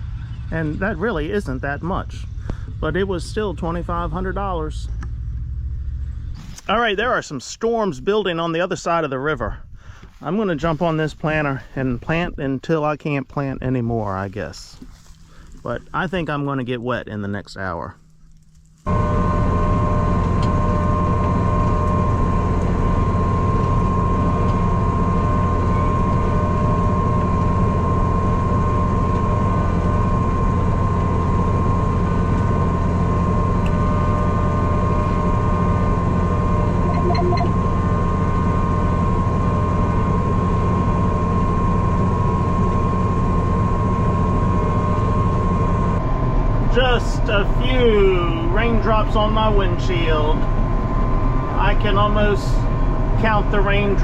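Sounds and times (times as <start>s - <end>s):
steady high whine: 0.0s - 54.0s
tractor engine drone: 0.0s - 54.0s.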